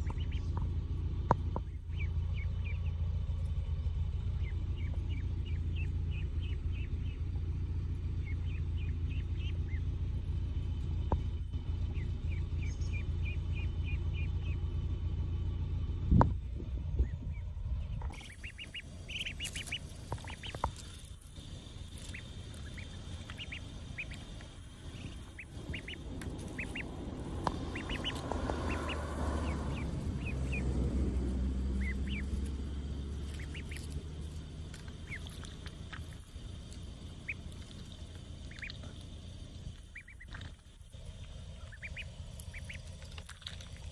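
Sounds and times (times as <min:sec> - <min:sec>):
ducklings peeping: 0:00.0 - 0:03.0, 0:04.2 - 0:10.2, 0:11.6 - 0:14.7, 0:17.0 - 0:43.9
low steady rumble: 0:00.0 - 0:43.9.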